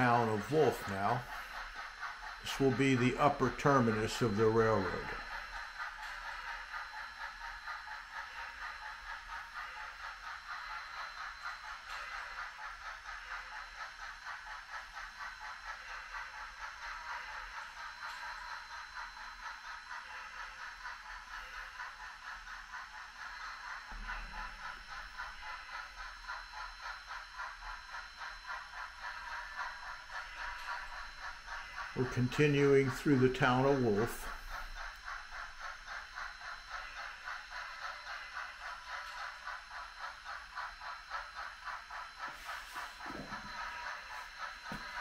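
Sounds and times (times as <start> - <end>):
model train rattling on track: 0.0 - 45.0.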